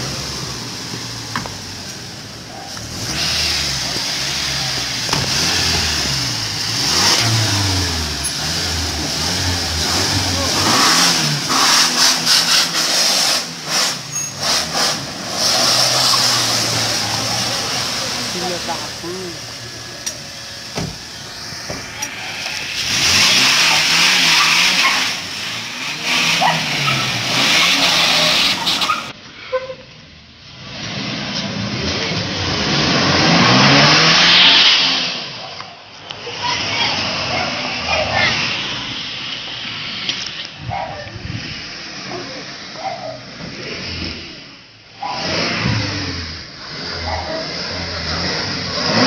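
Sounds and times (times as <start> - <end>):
car engine accelerating: 0.0 - 29.2, 30.5 - 40.6, 41.2 - 49.0
loud tyre noise: 0.0 - 49.0.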